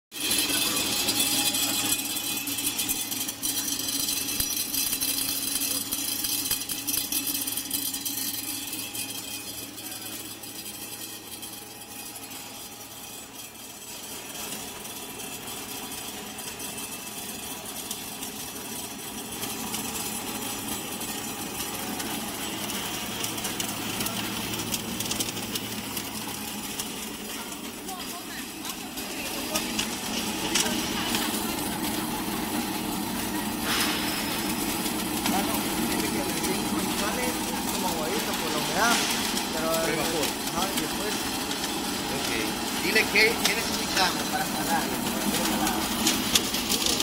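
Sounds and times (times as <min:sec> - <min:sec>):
machine humming and hissing: 0:00.2 - 0:47.0.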